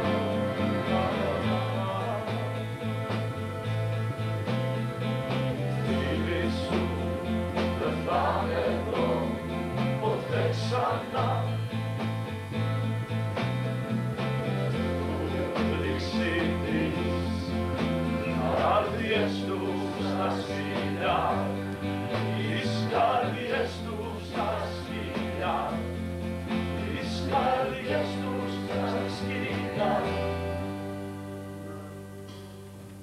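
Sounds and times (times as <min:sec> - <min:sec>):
accordion chords: 0:00.0 - 0:33.0
bass notes: 0:00.0 - 0:33.0
strummed accents: 0:00.0 - 0:33.0.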